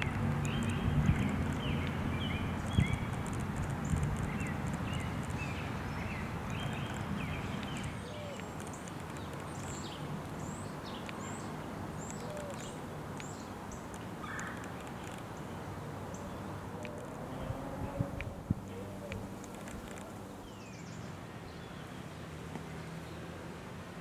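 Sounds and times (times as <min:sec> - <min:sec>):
small birds chirping: 0:00.0 - 0:23.3.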